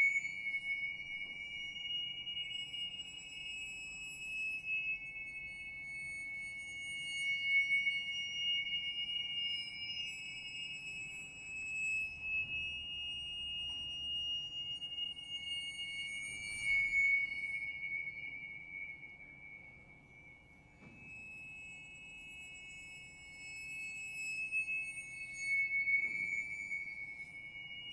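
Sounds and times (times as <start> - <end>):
finger cymbals ringing: 0.0 - 27.9.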